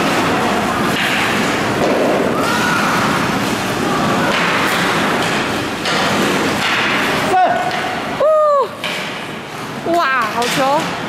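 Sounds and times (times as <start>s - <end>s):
hockey sticks and puck clacking: 0.0s - 8.1s, 8.8s - 11.0s
steady rink din: 0.0s - 11.0s.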